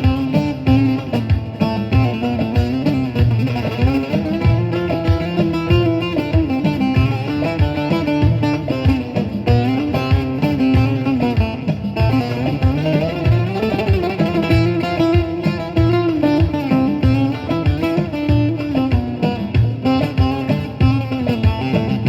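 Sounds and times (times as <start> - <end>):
plucked lute folk dance tune: 0.0 - 22.0.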